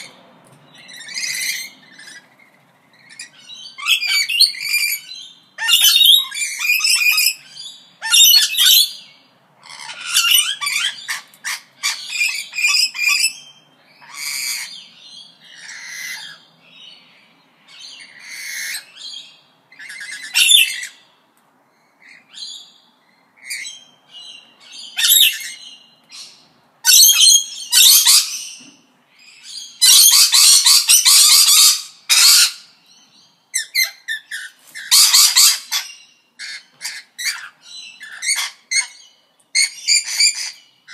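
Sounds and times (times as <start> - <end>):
parrots squawking and chirping: 0.0 - 21.2, 21.9 - 40.9.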